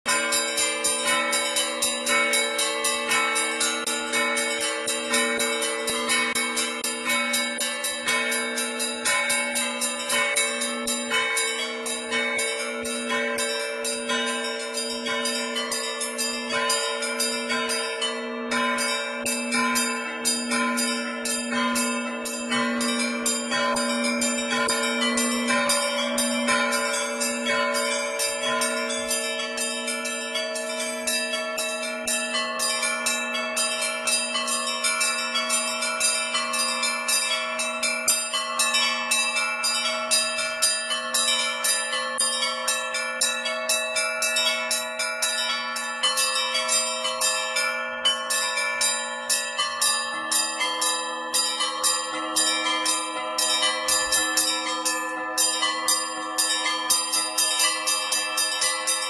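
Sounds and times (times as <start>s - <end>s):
small church bells rung rapidly: 0.0s - 59.0s
deep bell ringing: 0.1s - 59.0s.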